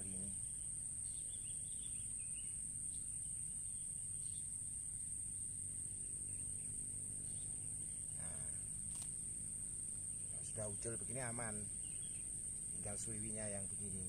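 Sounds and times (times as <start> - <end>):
faint chirps: 0.0 - 14.0
insects buzzing: 0.0 - 14.0.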